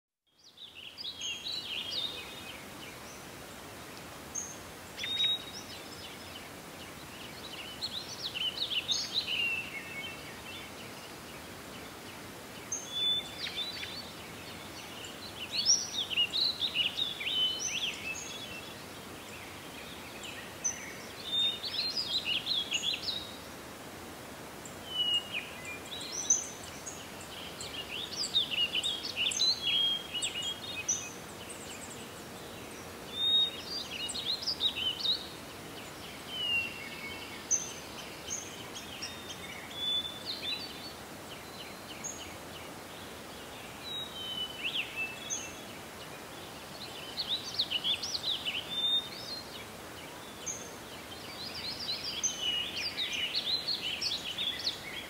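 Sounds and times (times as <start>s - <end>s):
songbirds twittering: 0.2s - 55.0s
outdoor hiss: 0.3s - 55.0s.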